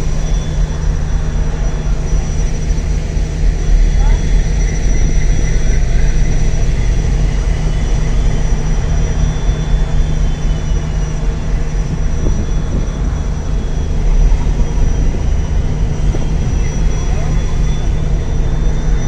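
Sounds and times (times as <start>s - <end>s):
ferry engine rumbling: 0.0s - 19.0s.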